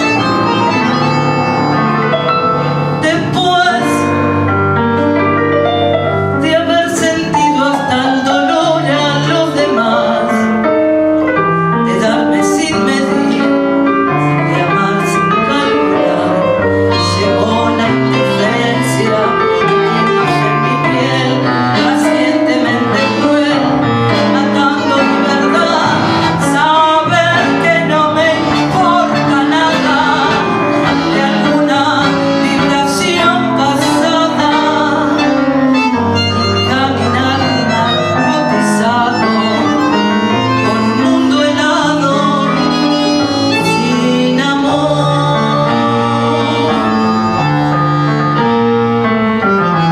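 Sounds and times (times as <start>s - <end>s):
bandoneon: 0.0s - 49.9s
guitar: 0.0s - 49.9s
piano: 0.0s - 49.9s.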